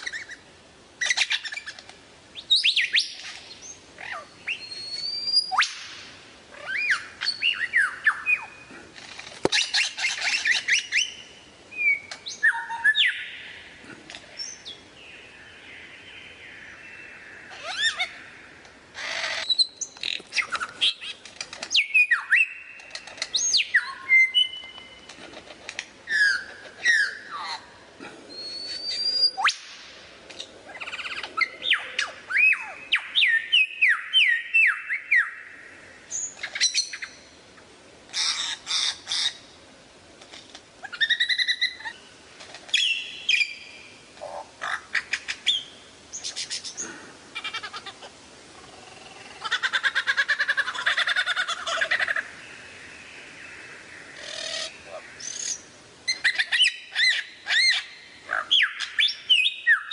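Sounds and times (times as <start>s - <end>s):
songbird singing: 0.0s - 39.8s, 40.4s - 59.9s.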